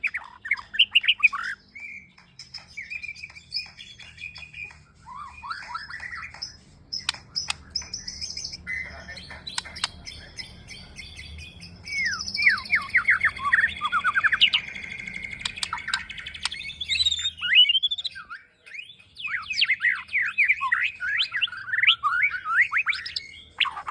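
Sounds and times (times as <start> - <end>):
bird singing whistles and trills: 0.0 - 23.9.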